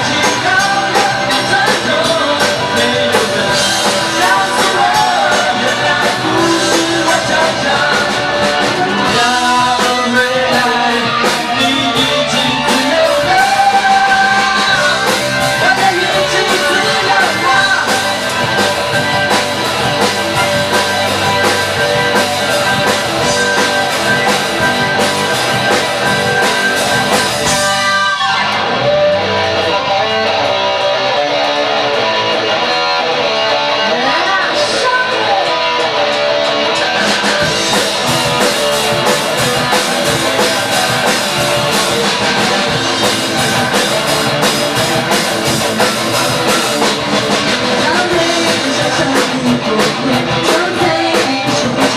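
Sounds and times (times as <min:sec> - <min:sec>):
drum kit with cymbals: 0:00.0 - 0:28.6, 0:34.0 - 0:51.9
electric guitar: 0:00.0 - 0:51.9.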